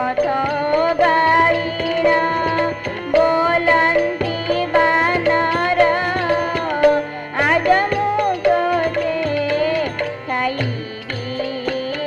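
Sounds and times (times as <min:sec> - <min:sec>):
hand percussion strikes: 0:00.0 - 0:12.0
person singing with sliding pitches: 0:00.0 - 0:12.0.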